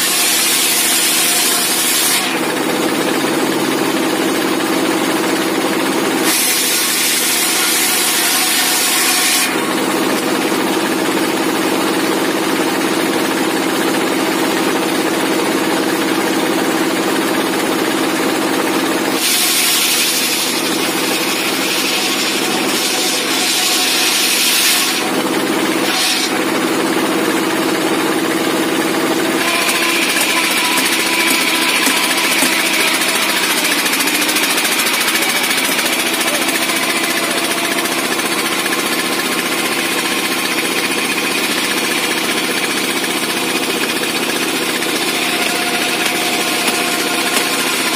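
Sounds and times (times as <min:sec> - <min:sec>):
diesel engine running: 0:00.0 - 0:08.0, 0:09.4 - 0:47.9
saw blade cutting wood: 0:00.0 - 0:11.9, 0:18.6 - 0:28.3, 0:29.1 - 0:47.9
saw blade whining: 0:00.0 - 0:47.9.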